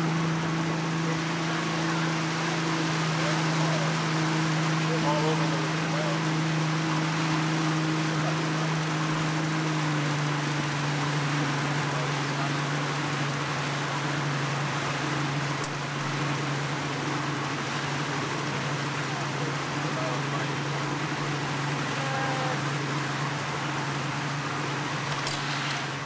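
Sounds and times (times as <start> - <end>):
boat motor humming: 0.0 - 26.0
water rushing past: 0.0 - 26.0.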